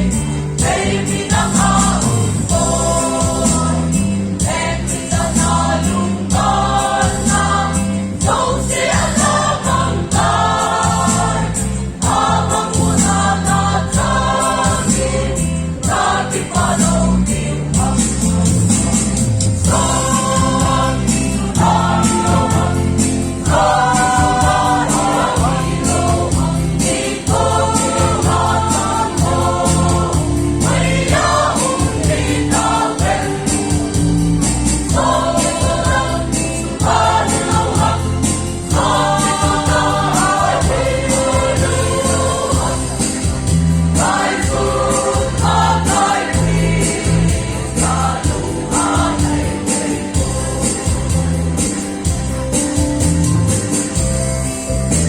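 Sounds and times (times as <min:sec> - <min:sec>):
choir singing gospel: 0:00.0 - 0:55.0
instrumental accompaniment: 0:00.0 - 0:55.0.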